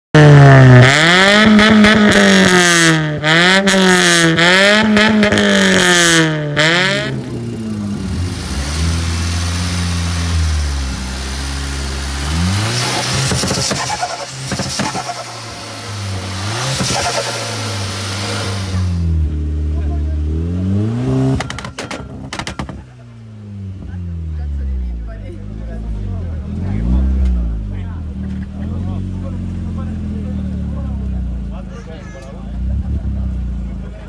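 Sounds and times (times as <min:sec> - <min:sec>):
car engine revving: 0:00.1 - 0:34.0.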